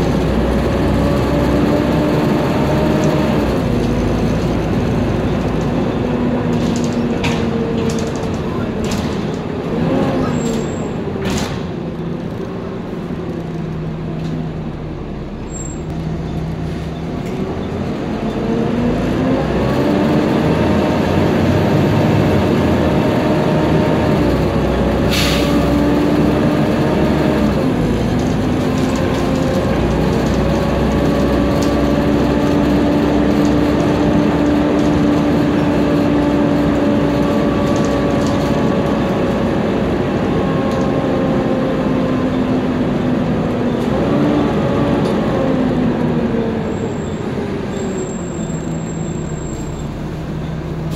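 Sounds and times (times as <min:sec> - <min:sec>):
bus engine whining: 0:00.0 - 0:50.9.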